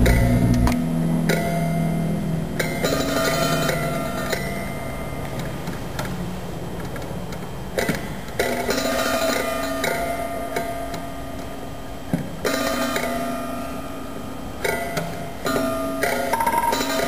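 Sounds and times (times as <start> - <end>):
music with ringing notes: 0.0 - 5.4, 8.4 - 17.0.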